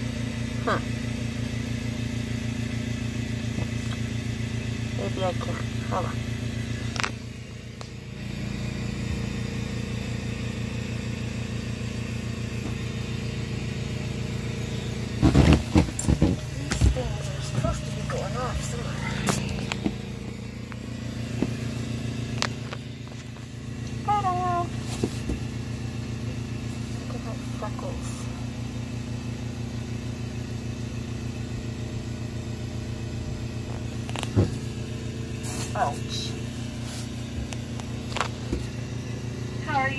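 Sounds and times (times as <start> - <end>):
machine hum with fast throb: 0.0 - 39.9.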